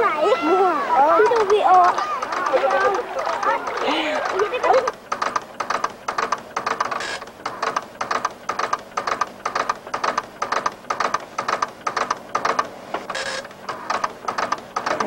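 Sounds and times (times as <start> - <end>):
teleprinter clattering: 0.0 - 15.0.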